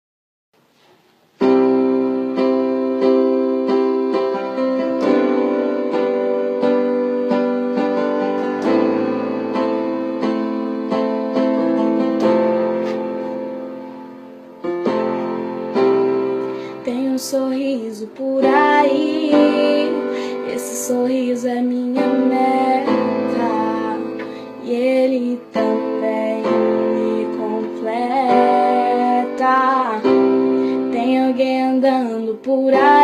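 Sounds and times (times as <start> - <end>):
piano chords: 1.3 - 33.0.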